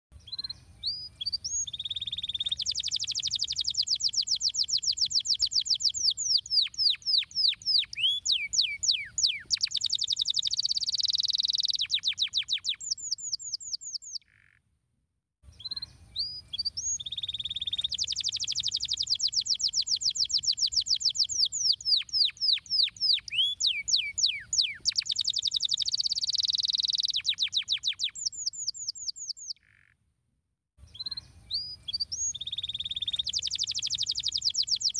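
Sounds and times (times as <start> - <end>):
canary singing: 0.3 - 14.3, 15.6 - 29.8, 30.9 - 34.9.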